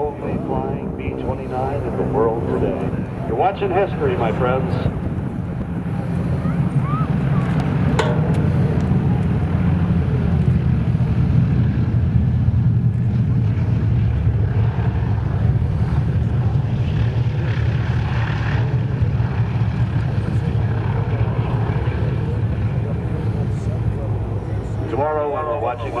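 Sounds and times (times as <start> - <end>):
propeller engines droning: 0.0 - 26.0.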